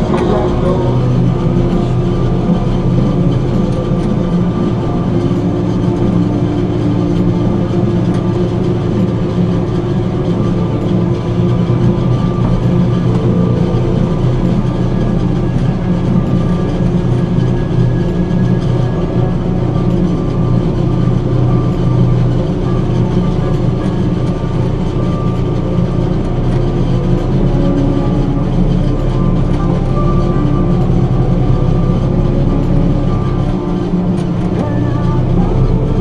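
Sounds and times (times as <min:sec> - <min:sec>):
heavy machine humming: 0:00.0 - 0:36.0.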